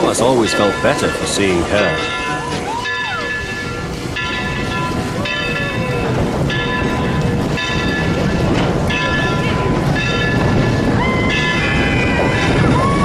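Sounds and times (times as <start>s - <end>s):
train rumbling and rattling: 0.0s - 13.0s.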